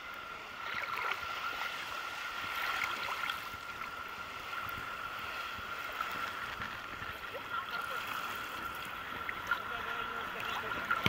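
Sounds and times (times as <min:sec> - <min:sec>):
small waves lapping: 0:00.0 - 0:11.0.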